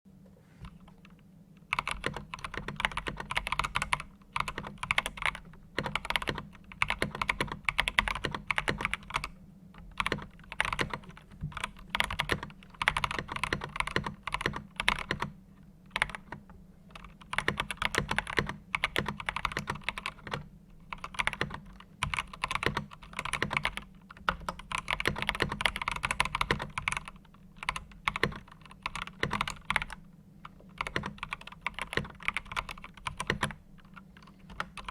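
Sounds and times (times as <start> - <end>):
steady low hum: 0.1 - 34.9
mechanical keyboard keys clacking: 1.0 - 9.3, 9.9 - 15.3, 15.9 - 34.9.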